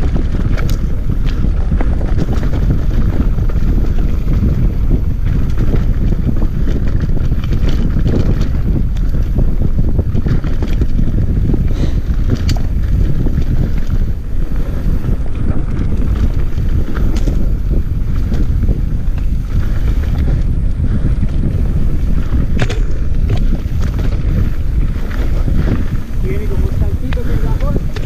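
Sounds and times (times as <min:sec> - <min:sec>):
bike clicks and rattles: 0:00.0 - 0:28.0
tyres rumbling on dirt: 0:00.0 - 0:28.0
wind buffeting microphone: 0:00.0 - 0:28.0.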